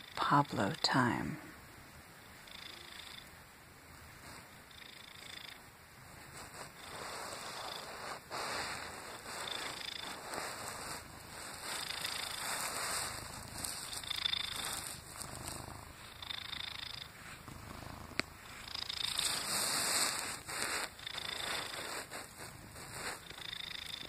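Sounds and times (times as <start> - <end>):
cat purring: 2.2 - 3.3, 4.1 - 24.0.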